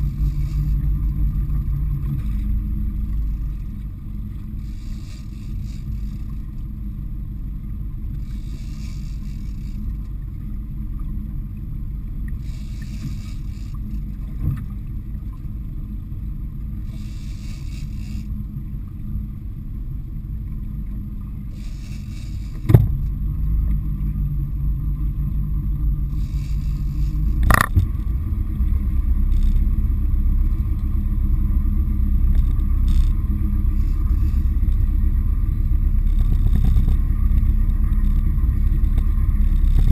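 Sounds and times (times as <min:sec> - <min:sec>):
boat engine running: 0:00.0 - 0:39.9
water noise: 0:00.0 - 0:39.9
wind: 0:00.0 - 0:39.9.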